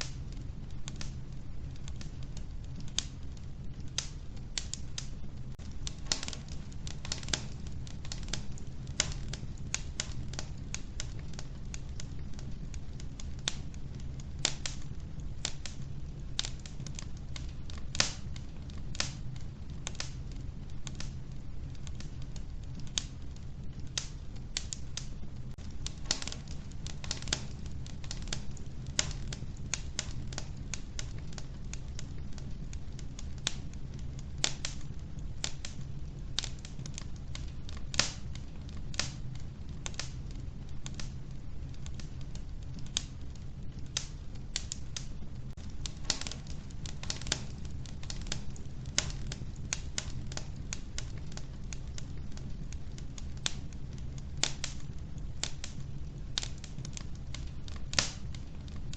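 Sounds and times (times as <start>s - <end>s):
wood fire crackling and popping: 0.0s - 58.9s.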